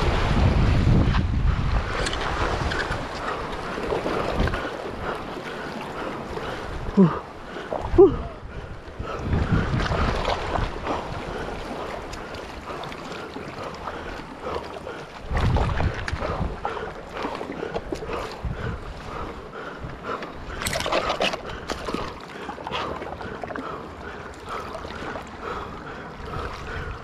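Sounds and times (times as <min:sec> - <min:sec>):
wind rumbling on microphone: 0:00.0 - 0:12.8, 0:13.4 - 0:22.2, 0:24.6 - 0:27.0
sea water lapping against rocks: 0:00.0 - 0:27.0.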